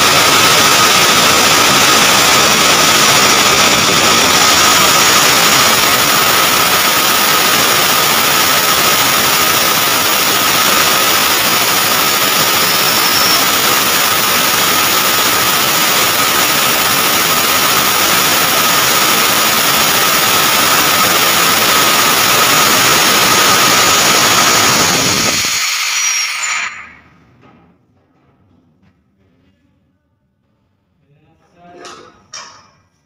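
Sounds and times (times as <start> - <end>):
gas discharge rushing hiss: 0.0 - 27.1.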